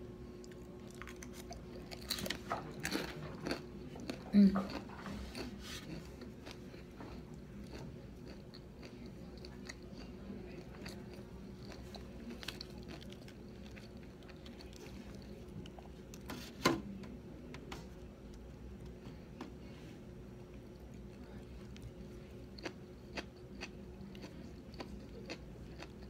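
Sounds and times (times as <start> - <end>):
chewing and crunching food: 0.2 - 16.5, 20.2 - 26.0.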